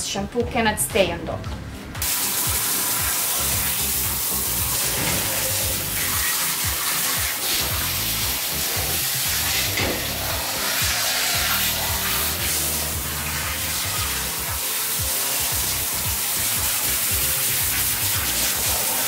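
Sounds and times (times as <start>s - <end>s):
background music: 0.0s - 19.0s
shower spray hissing: 2.0s - 19.0s.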